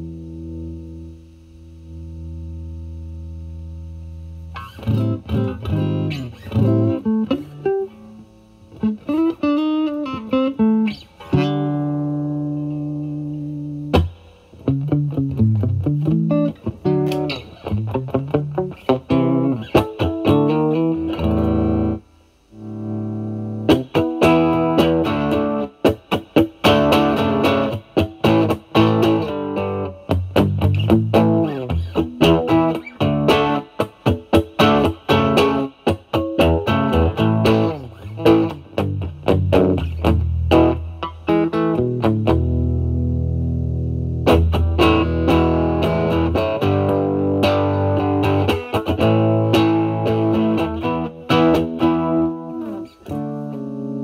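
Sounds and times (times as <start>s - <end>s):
overdriven electric guitar blues lead: 4.4s - 54.0s.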